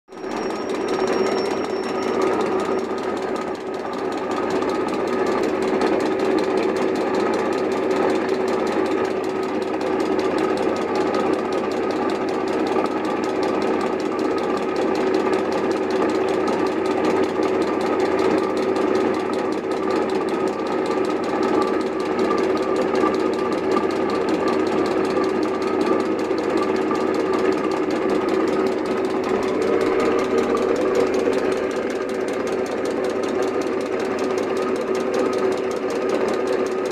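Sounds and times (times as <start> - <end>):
metal lathe running: 0.1 - 36.9.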